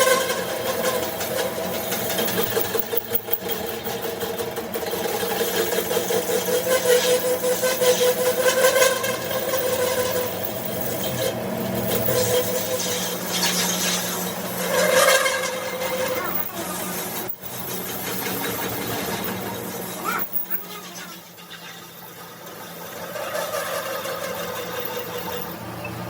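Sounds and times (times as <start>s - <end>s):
motor-driven machine pulsing: 0.0s - 26.0s.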